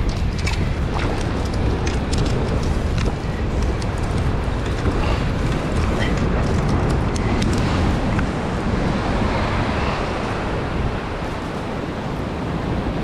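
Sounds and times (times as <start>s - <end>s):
boat engine rumbling: 0.0s - 12.8s
rushing water: 0.0s - 13.0s
wind buffeting microphone: 0.0s - 13.0s.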